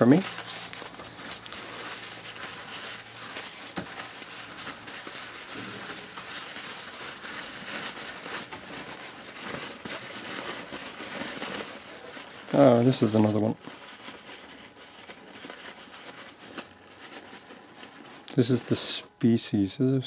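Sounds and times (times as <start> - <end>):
tissue paper crinkling: 0.0 - 20.0.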